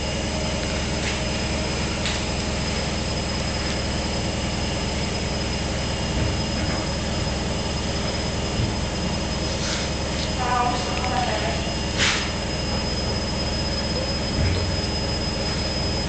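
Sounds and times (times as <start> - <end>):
constant high whine: 0.0 - 16.0
washing machine rumble: 0.0 - 16.0.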